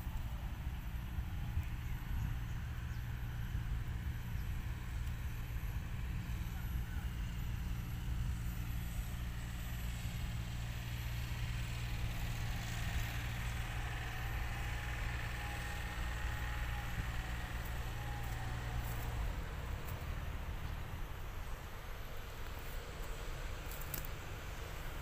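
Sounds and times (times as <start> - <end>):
engine droning hum: 0.0 - 25.0.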